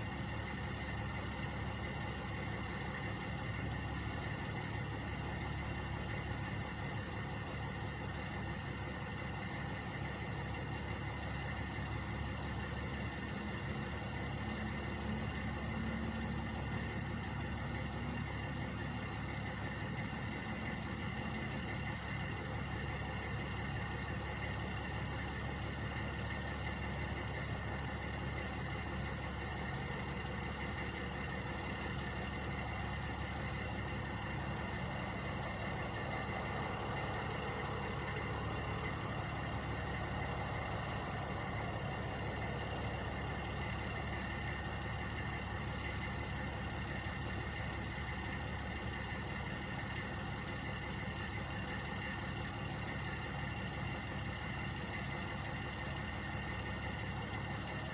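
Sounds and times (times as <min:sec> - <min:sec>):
truck engines idling: 0:00.0 - 0:57.9.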